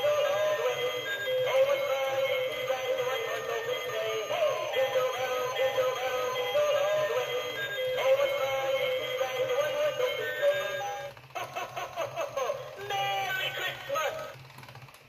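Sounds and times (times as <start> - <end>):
toy singing voice over music: 0.0 - 11.1, 12.3 - 14.4.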